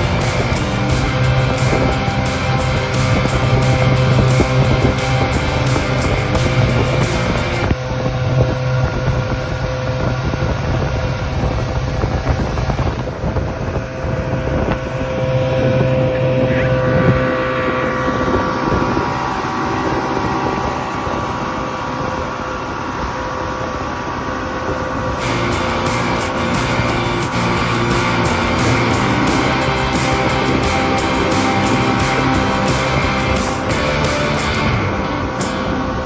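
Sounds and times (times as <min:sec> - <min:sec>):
outboard motor running: 0:00.0 - 0:36.0
wind noise on microphone: 0:00.0 - 0:36.0.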